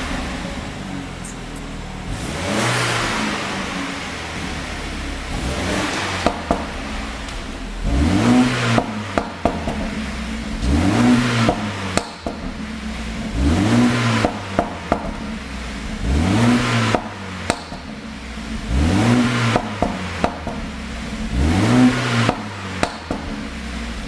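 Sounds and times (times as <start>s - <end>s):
car engine revving: 0.0s - 24.0s
exhaust pops and crackles: 4.4s - 24.0s.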